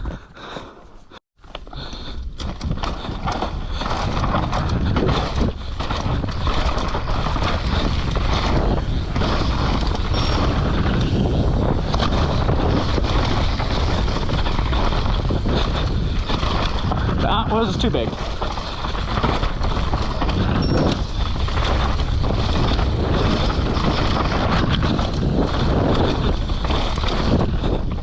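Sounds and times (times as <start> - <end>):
bike clicking and rattling: 0.0 - 28.0
bike tyres on dirt: 0.0 - 28.0
wind buffeting microphone: 1.8 - 28.0.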